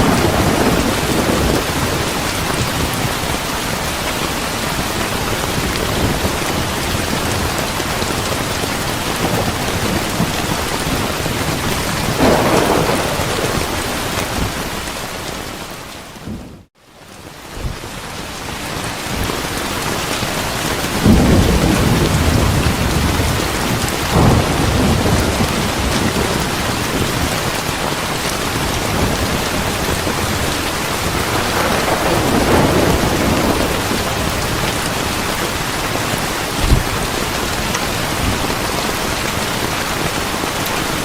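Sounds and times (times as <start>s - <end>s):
heavy rain hiss: 0.0s - 16.4s, 17.0s - 41.0s
thunder rumbling: 0.0s - 16.7s, 20.3s - 40.3s.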